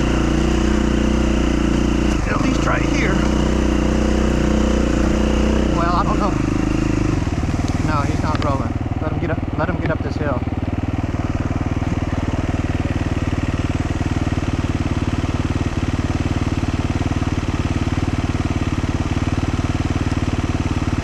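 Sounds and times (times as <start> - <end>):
motorcycle engine idling low: 0.0 - 21.0.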